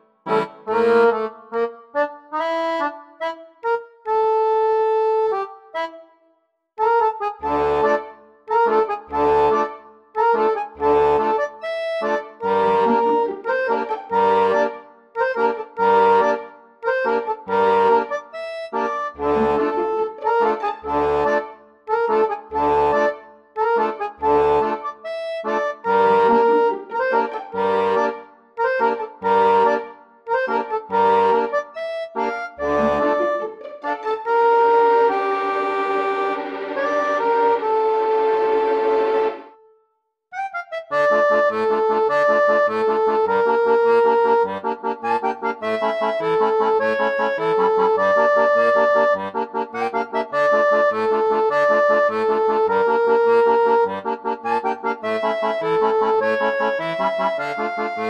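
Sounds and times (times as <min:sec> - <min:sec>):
accordion playing: 0:00.0 - 0:06.2, 0:06.8 - 0:58.0.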